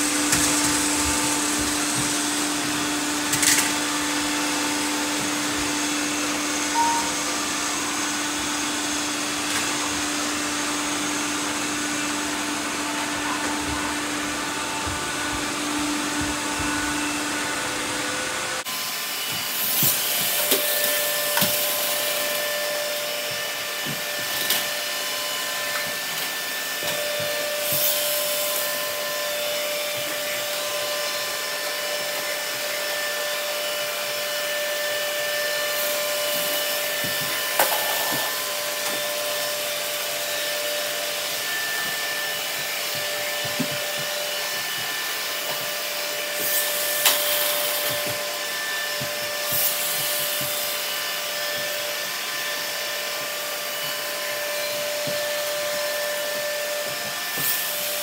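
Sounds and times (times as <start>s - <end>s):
robot vacuums whirring: 0.0s - 58.0s.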